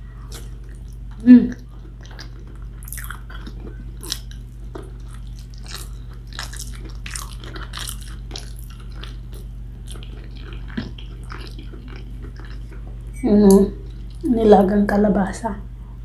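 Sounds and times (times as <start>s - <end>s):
person chewing food: 0.0s - 14.3s
steady low hum: 0.0s - 16.0s.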